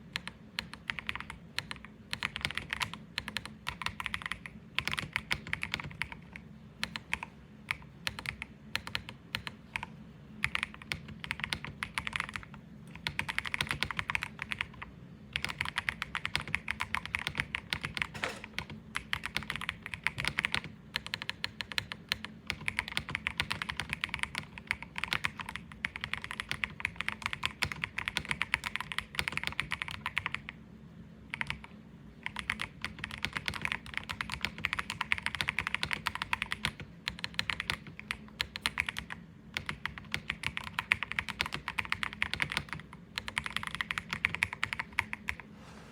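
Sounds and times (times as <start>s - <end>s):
mechanical keyboard typing: 0.0s - 30.6s, 31.3s - 45.4s.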